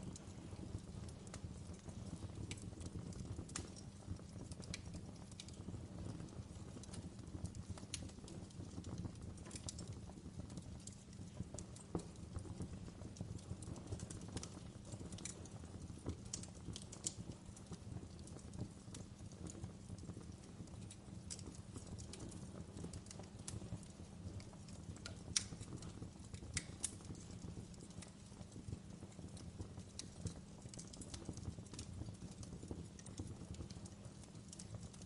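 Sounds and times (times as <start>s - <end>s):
fire flames rumbling: 0.0s - 35.0s
wood fire crackling and popping: 0.0s - 35.0s.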